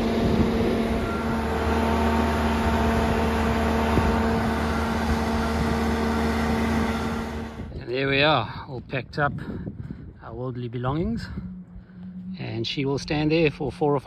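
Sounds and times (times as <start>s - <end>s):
deep drone: 0.0s - 7.9s, 9.6s - 14.0s
engine mechanical hum: 0.0s - 14.0s.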